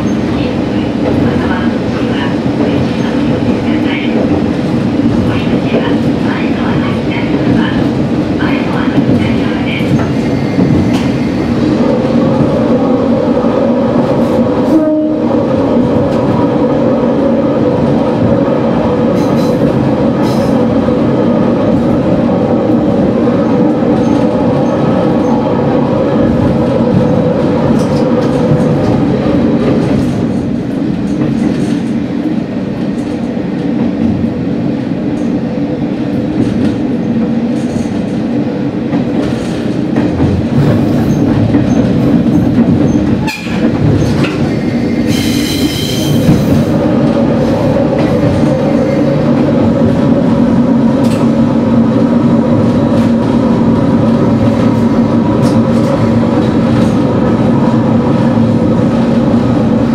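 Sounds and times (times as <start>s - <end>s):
diesel railcar engine drone: 0.0s - 59.9s.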